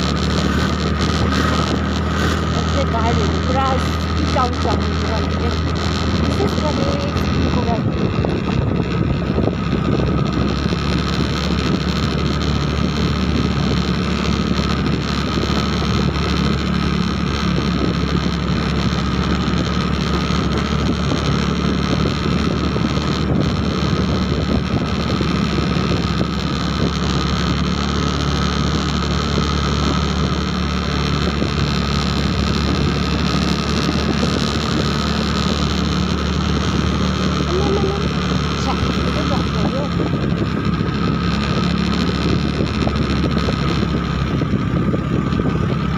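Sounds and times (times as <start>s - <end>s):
motorbike engine drone: 0.0s - 45.9s
road and wind noise: 0.0s - 45.9s.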